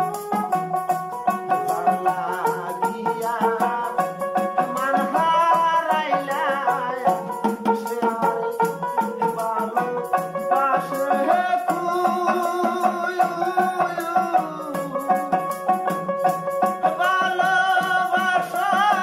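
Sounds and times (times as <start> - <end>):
jingled hand drum: 0.0 - 19.0
man singing: 1.1 - 19.0.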